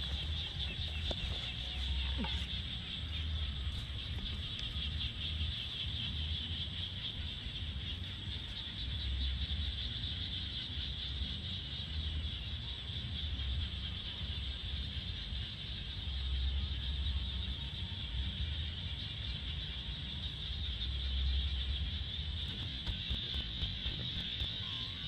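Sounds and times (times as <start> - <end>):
steady high-pitched drone: 0.0 - 25.0.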